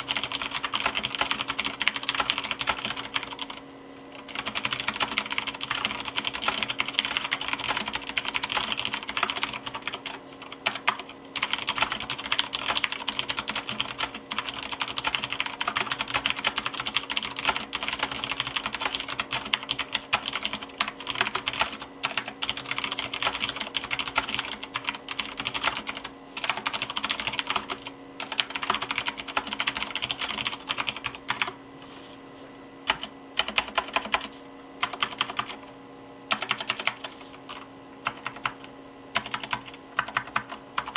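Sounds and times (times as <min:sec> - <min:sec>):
mechanical keyboard typing: 0:00.0 - 0:03.6, 0:04.2 - 0:31.6, 0:32.9 - 0:35.6, 0:36.3 - 0:40.9.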